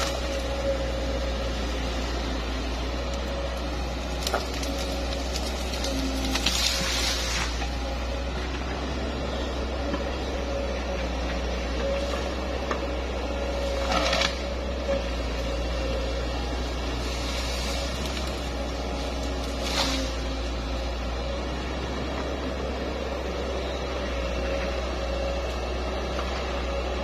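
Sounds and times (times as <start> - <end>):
excavator engine drone: 0.0 - 27.0.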